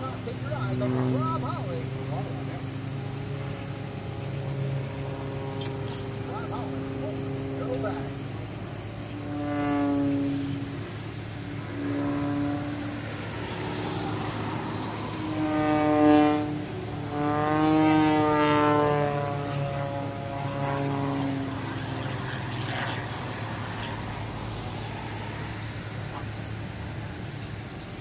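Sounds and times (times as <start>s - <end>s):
airplane engine passing overhead: 0.0s - 28.0s.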